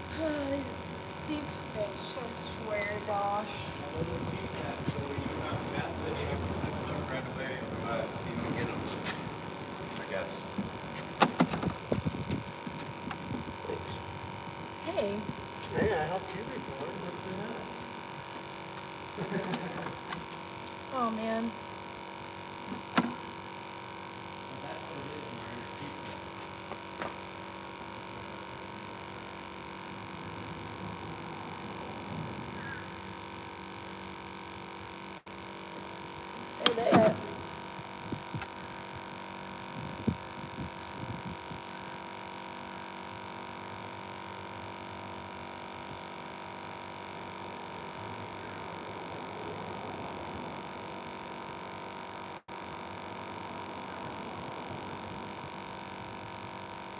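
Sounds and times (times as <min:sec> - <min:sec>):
steady multi-tone hum: 0:00.0 - 0:56.9.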